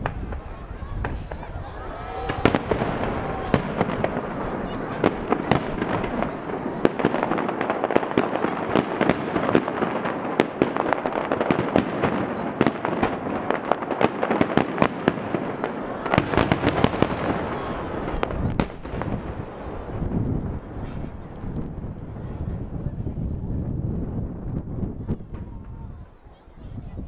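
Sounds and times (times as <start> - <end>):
fireworks bangs and pops: 0.0 - 26.2.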